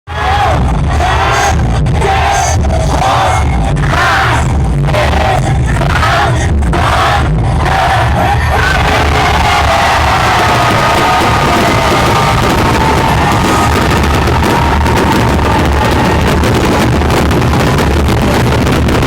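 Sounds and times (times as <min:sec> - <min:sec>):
crowd yelling and cheering: 0:00.1 - 0:19.0
loud music: 0:00.1 - 0:19.0.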